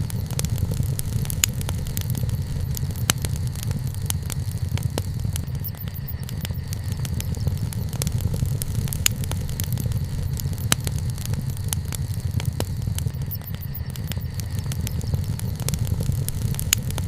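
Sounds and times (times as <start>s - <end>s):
campfire crackling: 0.0s - 17.0s
sharp fire pops: 0.0s - 17.0s.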